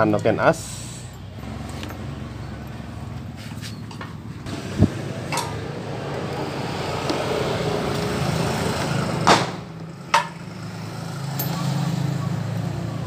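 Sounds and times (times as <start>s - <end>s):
engine running: 0.6s - 13.0s.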